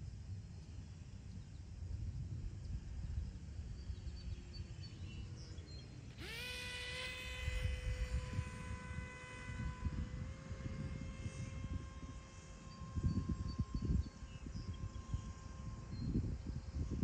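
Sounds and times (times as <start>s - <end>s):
model plane propeller motor whine: 0.0s - 17.0s
wind rumble on microphone: 0.0s - 17.0s.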